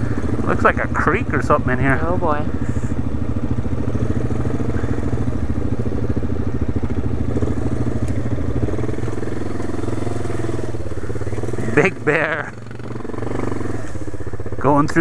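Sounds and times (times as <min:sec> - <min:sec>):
atv engine running at low revs: 0:00.0 - 0:15.0.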